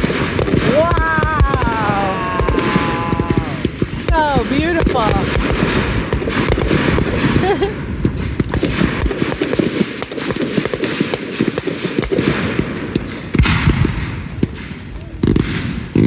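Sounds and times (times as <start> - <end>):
fireworks bangs and booms: 0.0 - 16.0
fireworks crackling: 0.0 - 16.0.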